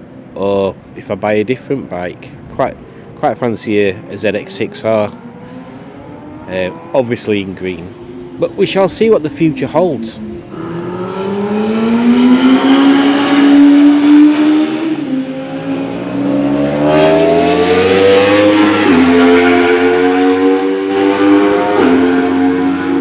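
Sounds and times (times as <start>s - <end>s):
motorcycle engines accelerating: 3.7s - 23.0s.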